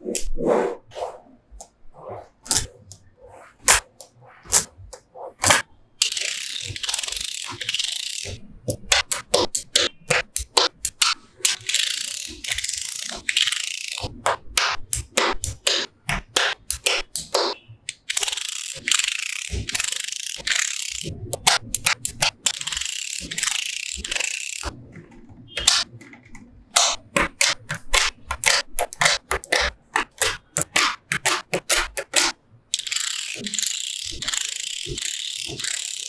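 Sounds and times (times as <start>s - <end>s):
balls rattling and scraping: 0.2s - 36.0s
magnetic balls clicking together: 4.0s - 36.0s.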